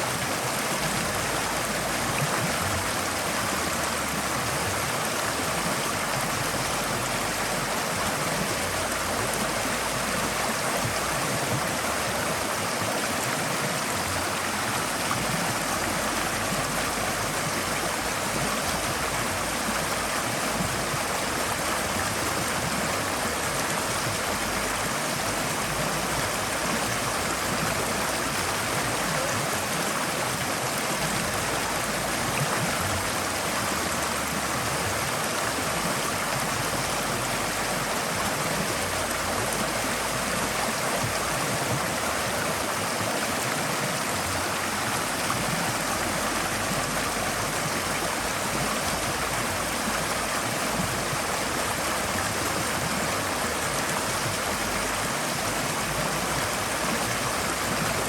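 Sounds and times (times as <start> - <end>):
stream rushing over stones: 0.0 - 58.0.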